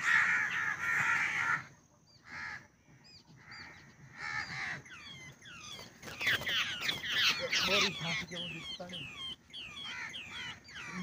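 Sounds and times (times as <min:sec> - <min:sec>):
birds giving harsh rasping calls: 0:00.0 - 0:11.0.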